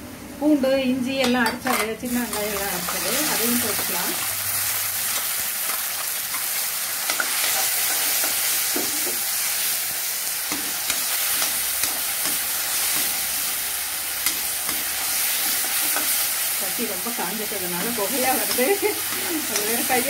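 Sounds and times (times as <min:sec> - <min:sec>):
vegetables sizzling in hot oil: 0:01.7 - 0:20.0.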